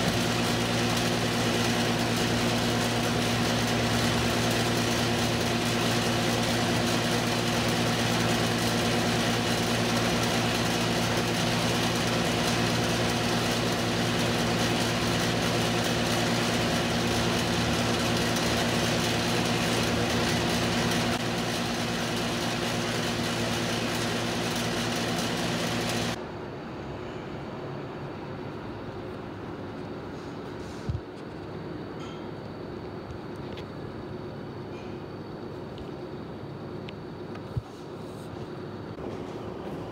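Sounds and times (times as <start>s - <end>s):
ventilation unit droning: 0.0s - 39.9s.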